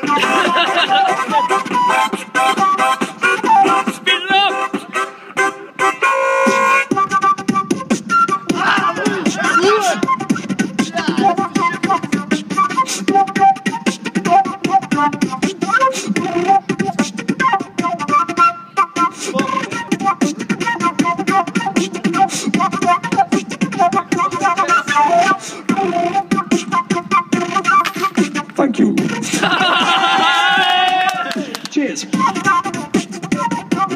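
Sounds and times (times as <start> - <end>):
beatboxing vocal percussion: 0.0 - 29.6, 31.1 - 33.9
flute-like vocal melody: 0.0 - 33.9.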